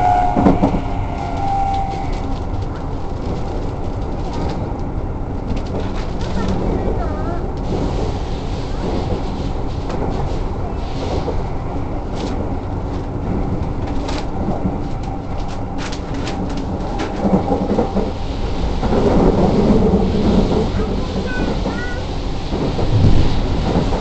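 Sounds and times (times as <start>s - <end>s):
rail clicks: 0.0s - 24.0s
train wheels rumbling: 0.0s - 24.0s.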